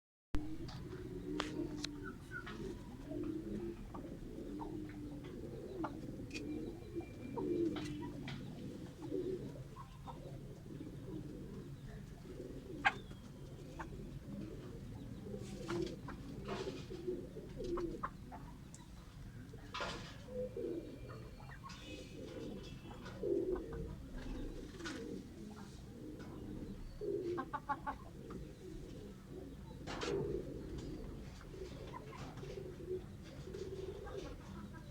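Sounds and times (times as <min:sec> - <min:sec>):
low bird calls: 0:00.4 - 0:34.9.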